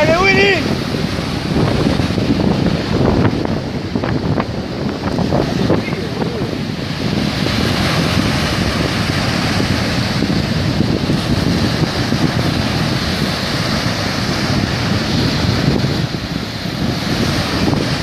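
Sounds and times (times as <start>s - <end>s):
surf and water: 0.0s - 18.0s
wind on microphone: 0.0s - 18.0s.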